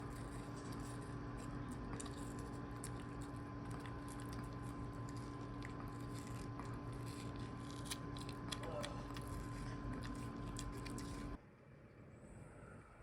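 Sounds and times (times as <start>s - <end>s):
dog chewing watermelon: 0.0s - 11.4s
steady hum: 0.0s - 13.0s.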